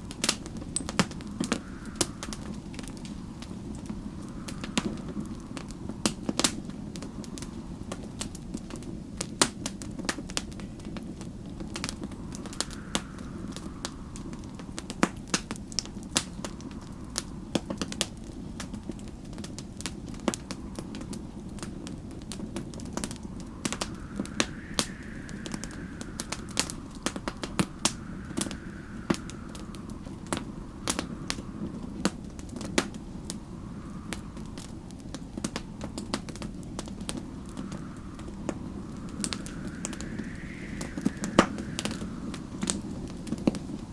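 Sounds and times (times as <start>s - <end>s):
howling snowstorm wind: 0.0s - 43.9s
wood fire crackling and popping: 0.0s - 43.9s.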